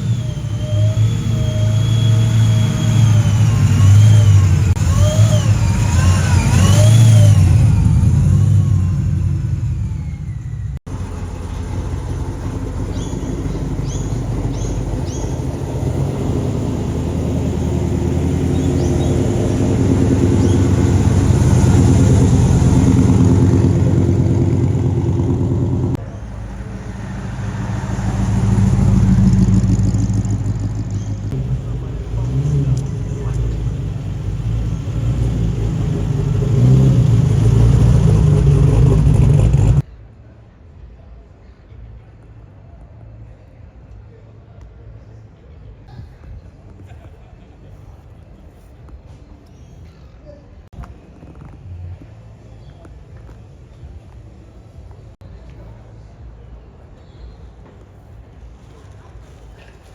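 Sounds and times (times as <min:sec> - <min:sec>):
car engines rumbling and revving: 0:00.0 - 0:57.0.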